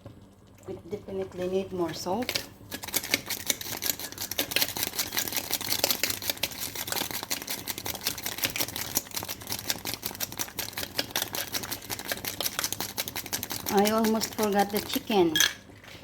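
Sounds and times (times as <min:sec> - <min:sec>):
soup boiling: 0:00.0 - 0:16.0.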